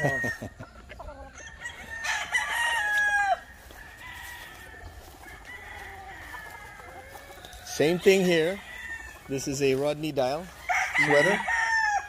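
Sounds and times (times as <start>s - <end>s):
rooster crowing loudly: 0.0s - 0.5s, 1.4s - 9.3s, 10.5s - 12.0s
distant roosters crowing and clucking: 0.0s - 12.0s.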